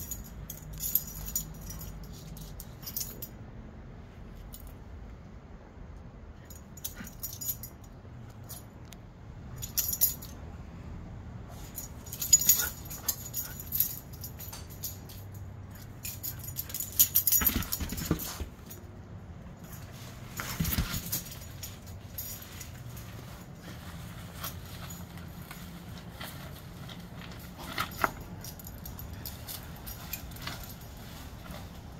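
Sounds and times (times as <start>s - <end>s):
collar tags jingling: 0.0s - 3.4s, 6.4s - 8.9s, 9.5s - 10.4s, 11.5s - 31.9s.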